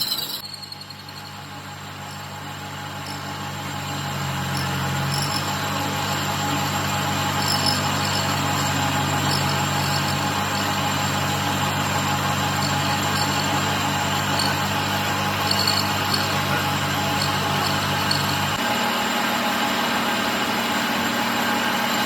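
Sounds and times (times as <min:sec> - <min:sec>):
machine motor humming: 0:01.8 - 0:21.0.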